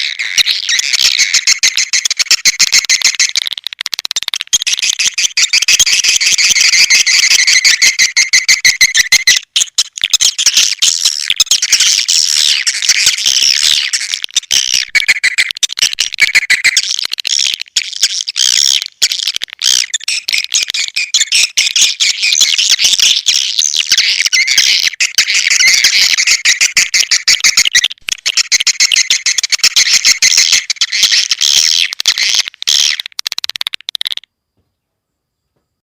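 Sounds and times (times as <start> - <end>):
swiftlets twittering and chirping: 0.0 - 34.3.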